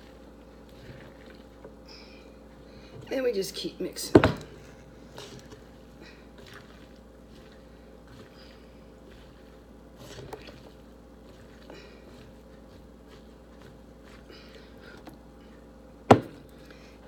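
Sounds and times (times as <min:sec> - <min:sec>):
squishing of food being mixed: 0:00.0 - 0:17.0.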